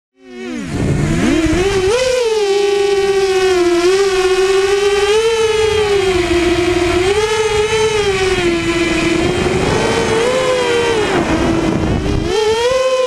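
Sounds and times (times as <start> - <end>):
quadcopter motors whining: 0.2 - 13.0.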